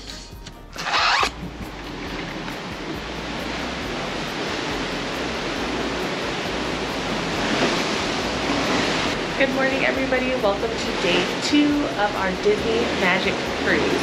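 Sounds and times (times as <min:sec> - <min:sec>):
sea water rushing along ship: 0:00.8 - 0:14.0.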